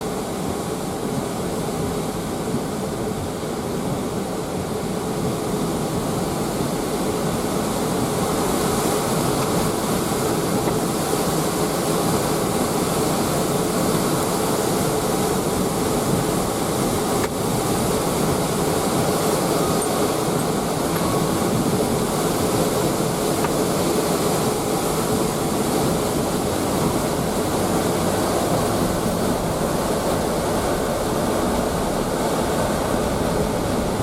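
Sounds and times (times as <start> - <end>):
hurricane wind blowing: 0.0 - 34.0.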